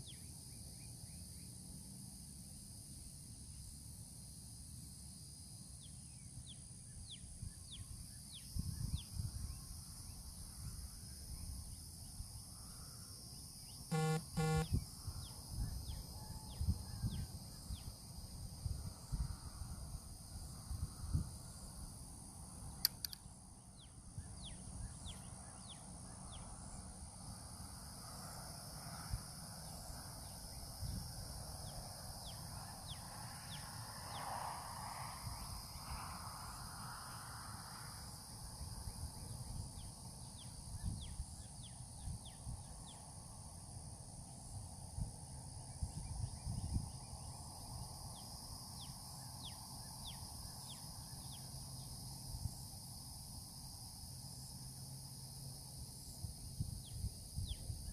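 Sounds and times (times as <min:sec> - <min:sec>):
chirring insect chorus: 0:00.0 - 0:57.9.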